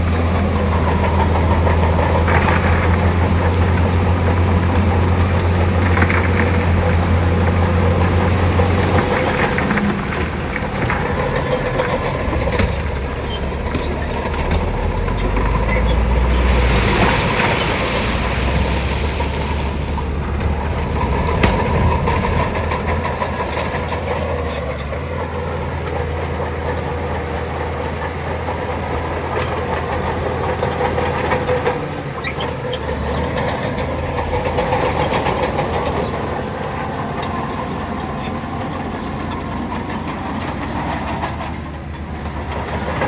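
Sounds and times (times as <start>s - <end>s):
diesel earthmoving machinery running: 0.0s - 43.0s.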